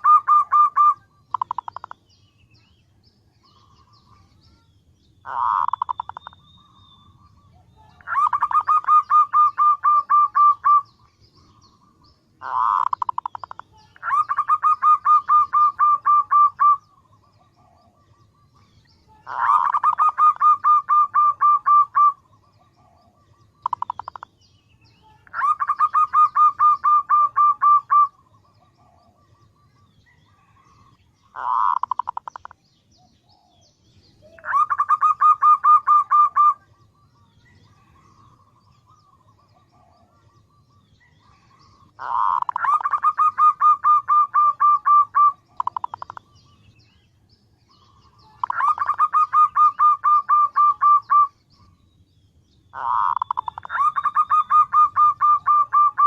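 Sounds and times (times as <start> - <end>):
dove staccato cooing: 0.0 - 2.0, 5.2 - 6.4, 7.4 - 18.6, 19.2 - 24.3, 25.2 - 29.5, 30.1 - 32.6, 33.2 - 36.8, 37.8 - 46.4, 47.9 - 51.7, 52.7 - 56.0.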